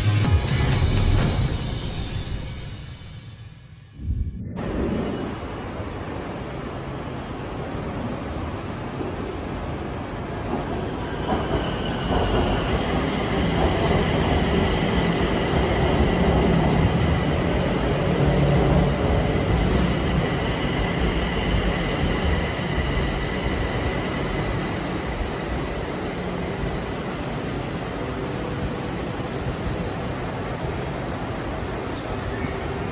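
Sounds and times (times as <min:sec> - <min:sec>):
train wheels rumbling on track: 0:04.6 - 0:32.9.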